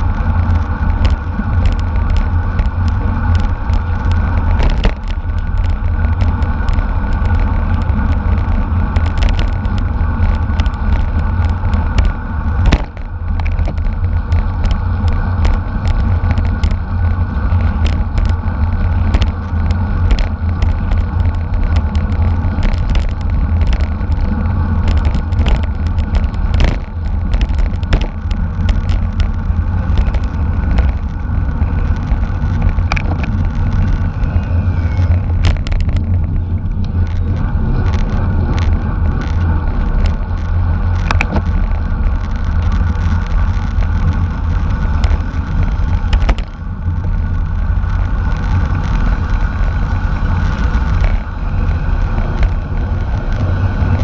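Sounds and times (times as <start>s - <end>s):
road and bike noise: 0.0s - 54.0s
wind rumble on microphone: 0.0s - 54.0s.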